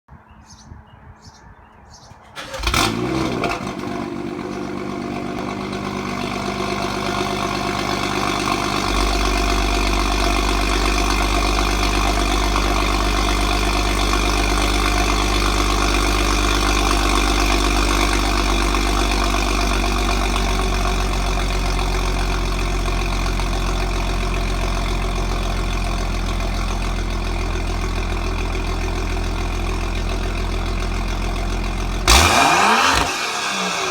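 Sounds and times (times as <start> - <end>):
car engine starting and idling: 2.1 - 33.9.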